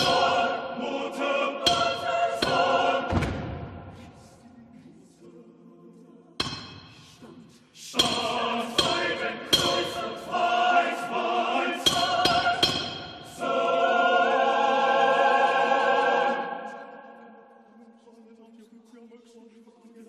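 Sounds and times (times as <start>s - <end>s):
choir singing: 0.0s - 17.8s.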